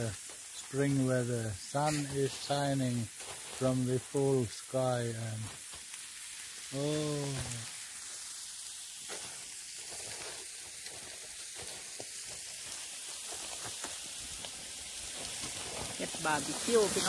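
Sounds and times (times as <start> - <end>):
charcoal grill hissing and crackling: 0.0 - 17.0.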